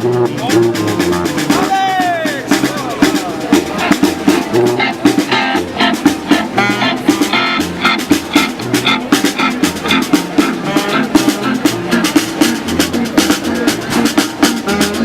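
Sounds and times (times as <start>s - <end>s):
drums beat: 0.0s - 15.0s
street band playing funk: 0.0s - 15.0s.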